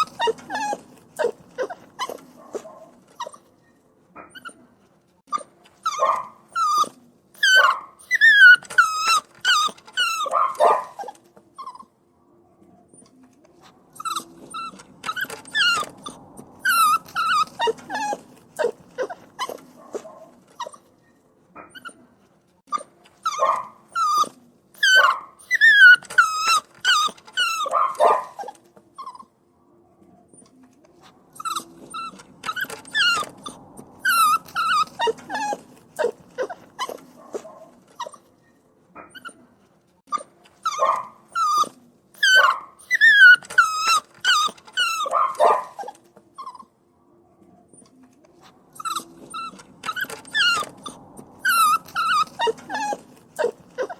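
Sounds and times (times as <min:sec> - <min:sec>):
puppy whining and yelping: 0:00.0 - 0:12.0, 0:12.9 - 0:29.4, 0:30.3 - 0:46.8, 0:47.6 - 0:53.9.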